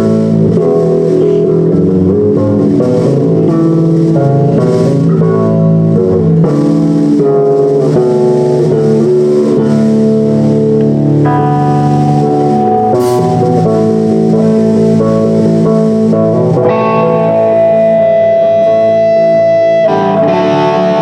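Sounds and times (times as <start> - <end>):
live punk rock band: 0.0 - 21.0.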